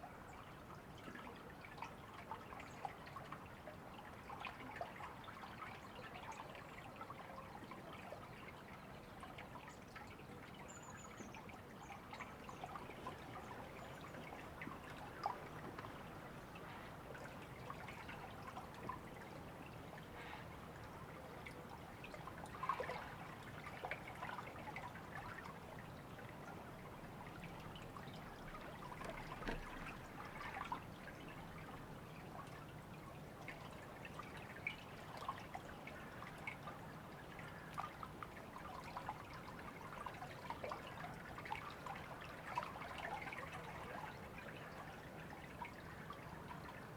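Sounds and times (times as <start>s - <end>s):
river water trickling: 0.0s - 46.9s.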